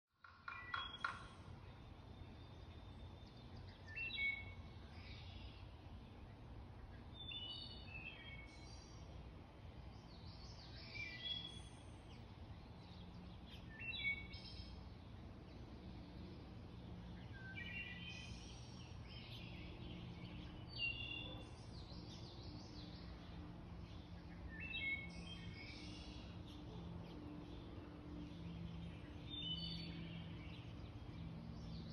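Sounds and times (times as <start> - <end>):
songbird singing: 0.1 - 31.9.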